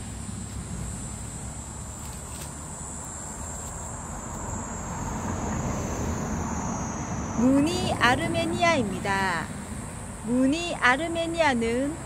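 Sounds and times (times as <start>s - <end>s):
crickets chirring: 0.0s - 12.0s
low outdoor rumble: 0.0s - 12.0s.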